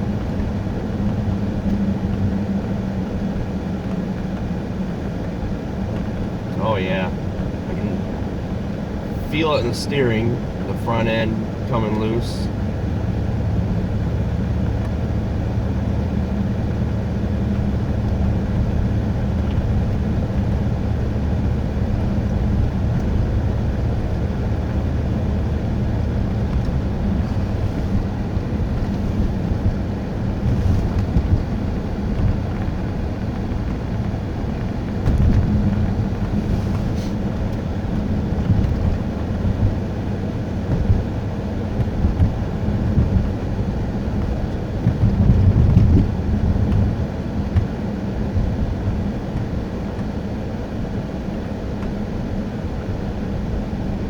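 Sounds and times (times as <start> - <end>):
car engine drone: 0.0 - 54.0
road and tyre noise: 0.0 - 54.0.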